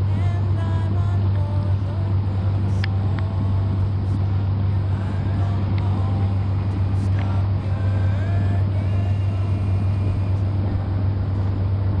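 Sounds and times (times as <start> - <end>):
boat engine droning: 0.0 - 12.0
sung song melody: 0.0 - 12.0.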